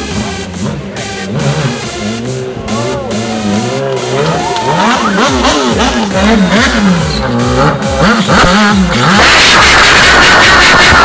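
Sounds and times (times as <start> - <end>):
loud music: 0.0 - 11.0
motorcycle engine revving: 0.0 - 11.0.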